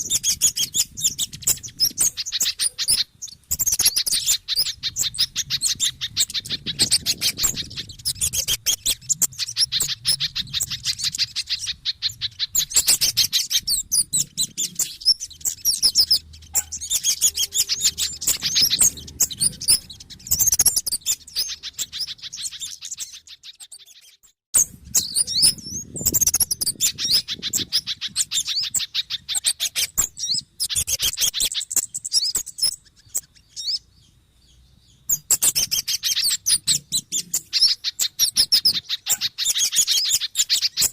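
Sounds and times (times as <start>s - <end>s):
small birds chirping rapidly: 0.0s - 40.9s.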